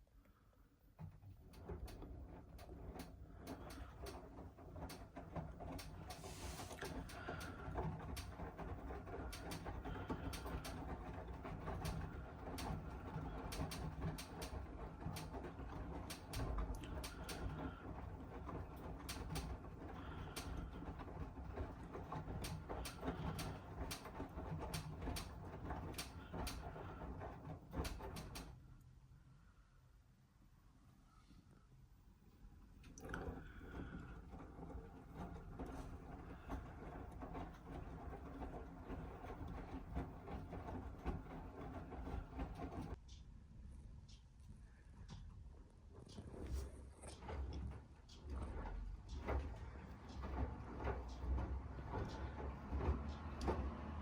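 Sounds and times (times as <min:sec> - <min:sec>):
washing machine motor hum: 0:00.3 - 0:28.8, 0:32.5 - 0:43.1, 0:44.9 - 0:54.0.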